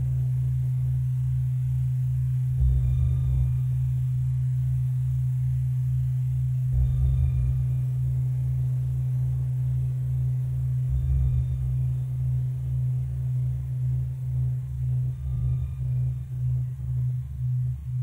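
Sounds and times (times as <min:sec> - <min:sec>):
low static hiss: 0:00.0 - 0:18.0
pulsing deep tone: 0:00.0 - 0:18.0
steady low electronic drone: 0:00.0 - 0:18.0.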